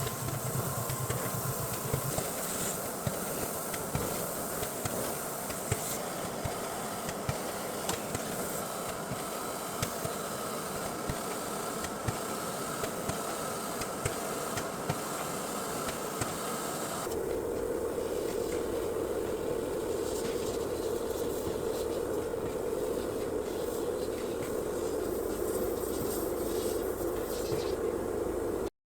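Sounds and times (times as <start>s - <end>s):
printer mechanical noise: 0.0s - 28.6s
low machine hum: 0.0s - 28.7s.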